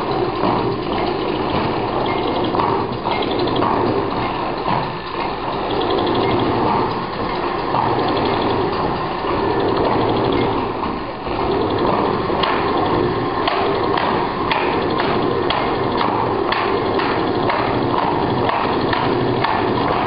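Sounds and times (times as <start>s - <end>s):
sewing machines clattering: 0.0s - 20.0s.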